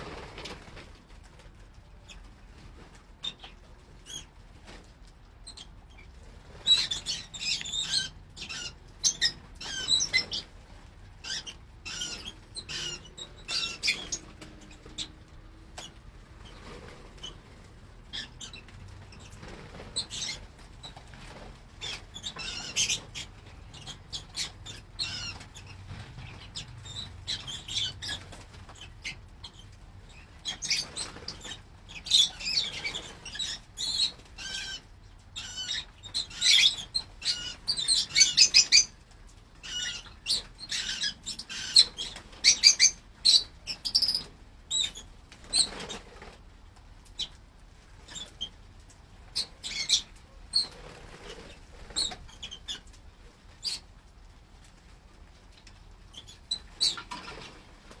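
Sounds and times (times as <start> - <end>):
lovebirds chirping and squeaking: 1.9 - 4.8, 5.4 - 46.4, 47.0 - 47.4, 48.0 - 53.9, 56.0 - 57.6.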